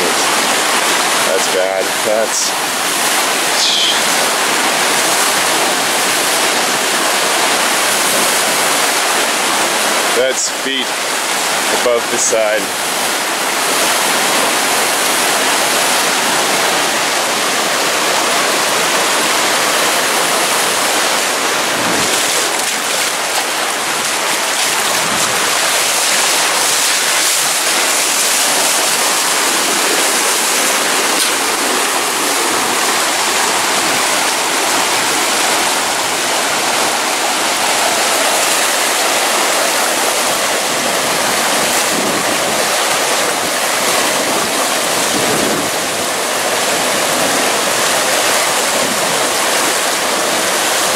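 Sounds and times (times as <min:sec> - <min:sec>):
water rushing and splashing: 0:00.0 - 0:50.9.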